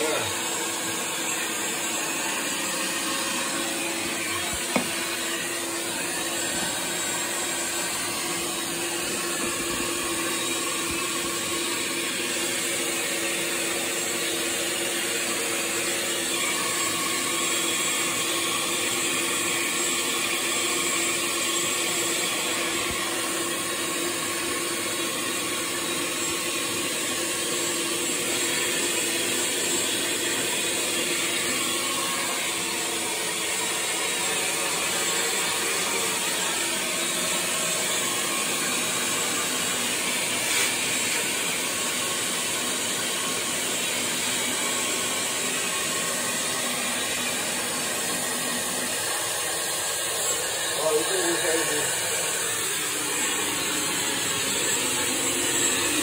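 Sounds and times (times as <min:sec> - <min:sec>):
small motor humming: 0:00.0 - 0:56.0.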